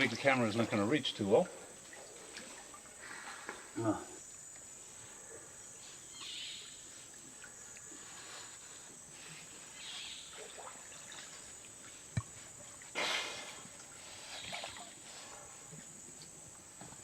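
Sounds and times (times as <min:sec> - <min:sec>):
water splashing and dripping: 0:00.0 - 0:04.8, 0:06.2 - 0:08.2, 0:09.2 - 0:17.0
high insect drone: 0:00.0 - 0:17.0.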